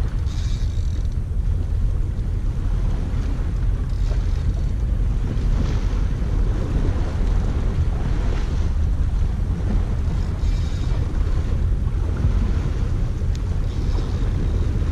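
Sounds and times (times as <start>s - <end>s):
sea water washing: 0.0s - 14.9s
wind buffeting microphone: 0.0s - 14.9s.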